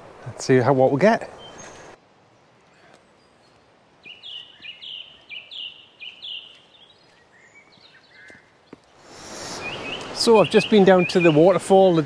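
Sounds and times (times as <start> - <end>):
faint outdoor hiss: 0.0 - 12.0
songbird singing: 0.1 - 12.0.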